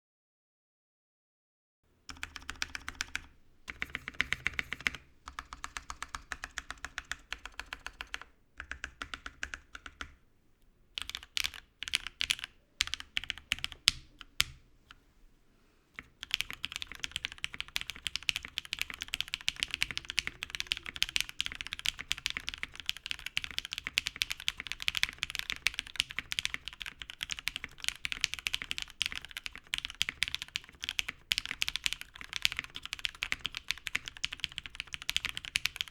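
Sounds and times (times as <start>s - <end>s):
mechanical keyboard typing: 2.1s - 10.2s, 11.0s - 14.6s, 16.0s - 35.9s.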